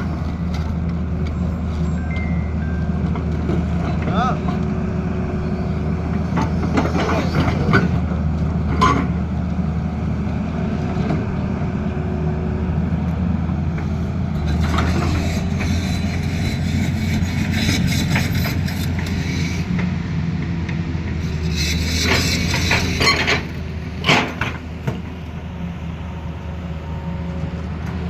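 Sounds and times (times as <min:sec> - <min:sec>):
diesel engine deep hum: 0:00.0 - 0:28.0.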